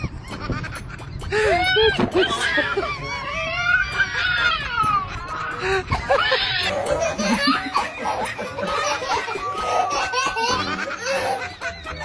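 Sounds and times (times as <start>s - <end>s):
baby laughing: 0.0s - 12.0s.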